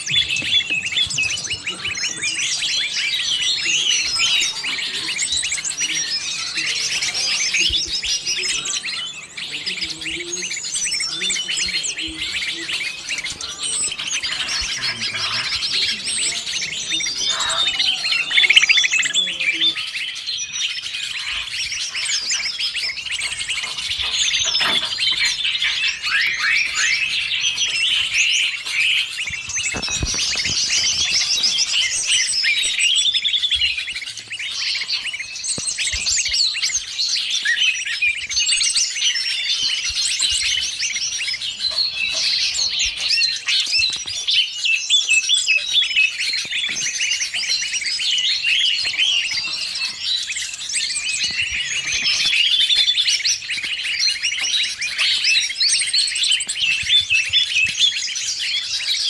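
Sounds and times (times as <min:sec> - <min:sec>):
leafbird calls: 0:00.0 - 0:59.0
songbirds chirping and trilling: 0:00.0 - 0:59.0.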